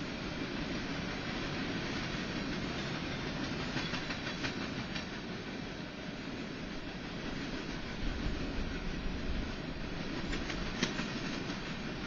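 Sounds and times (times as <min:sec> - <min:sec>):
train wheels rumbling on rail: 0:00.0 - 0:12.0
rail clacks: 0:00.8 - 0:05.4, 0:06.7 - 0:12.0.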